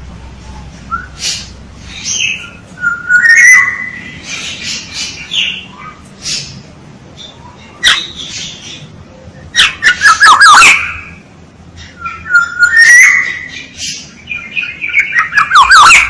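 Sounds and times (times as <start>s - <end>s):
oriole calling: 0.0s - 16.0s.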